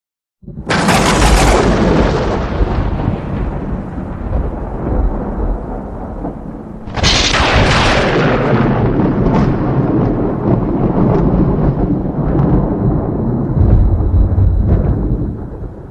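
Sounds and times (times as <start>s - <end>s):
thunder rumbling: 0.4s - 15.9s
sharp thunder crack: 0.5s - 15.9s.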